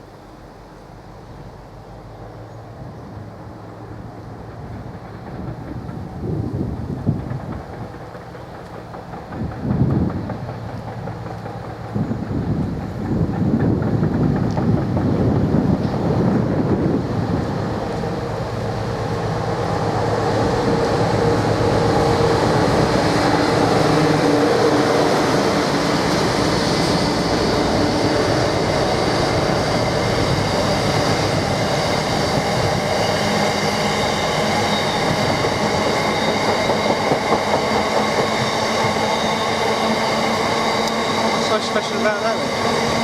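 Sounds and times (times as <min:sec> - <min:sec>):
train wheels on rail: 0:00.0 - 0:43.0.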